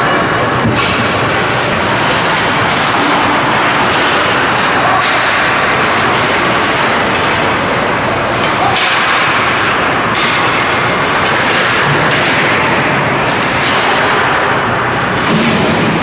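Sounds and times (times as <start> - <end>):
hockey sticks clacking on puck: 0.0 - 16.0.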